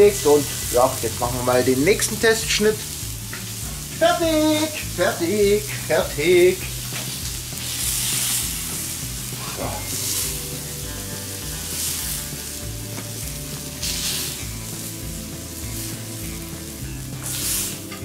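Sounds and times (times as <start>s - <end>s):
background music: 0.0s - 18.0s
meat sizzling on griddle: 0.0s - 18.0s.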